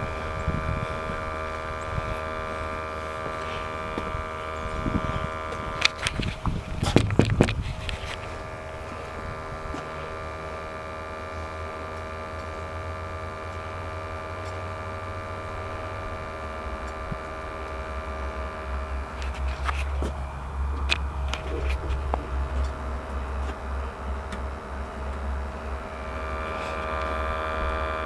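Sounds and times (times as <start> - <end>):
steady motor hum: 0.0 - 28.0.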